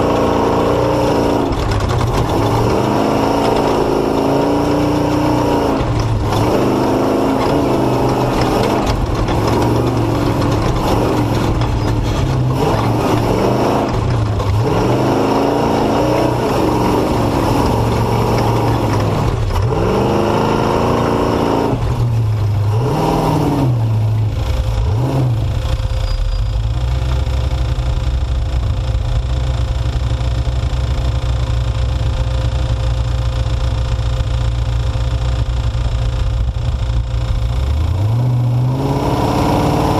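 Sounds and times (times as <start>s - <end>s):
truck engine revving: 0.0s - 33.0s, 34.2s - 39.9s.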